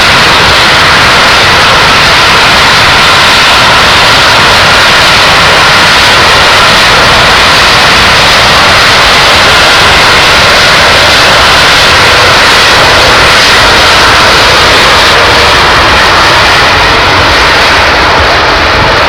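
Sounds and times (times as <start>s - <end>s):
loud jet engines: 0.0s - 19.0s.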